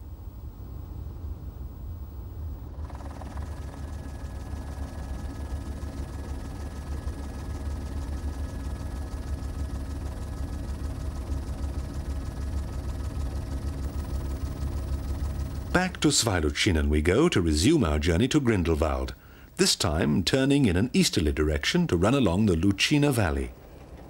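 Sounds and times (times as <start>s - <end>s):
helicopter low rumble: 0.0s - 24.0s
helicopter thin whine: 1.3s - 24.0s.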